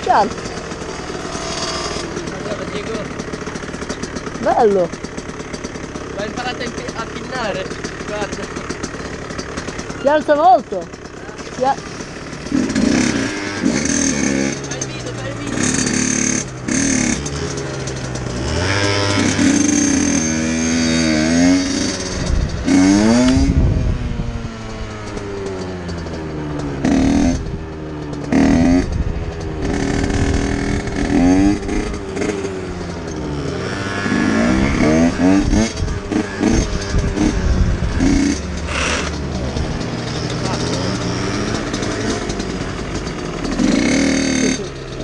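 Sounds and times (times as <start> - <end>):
scooter engine revving: 0.0 - 45.0
small two-stroke engines idling: 0.0 - 45.0.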